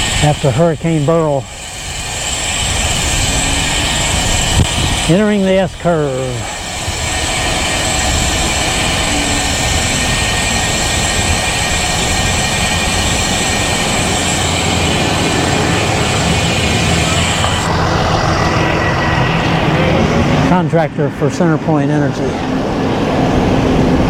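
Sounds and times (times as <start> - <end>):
bike tyre and road noise: 0.0 - 24.0
high steady whine: 0.0 - 24.0
wind rushing on microphone: 0.0 - 24.0.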